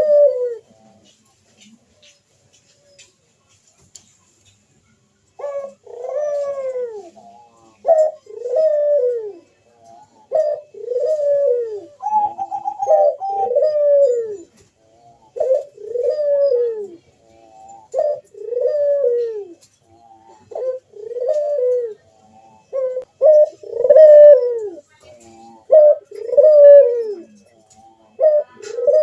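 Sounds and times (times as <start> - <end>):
dove cooing: 0.0 - 2.2, 5.3 - 29.0.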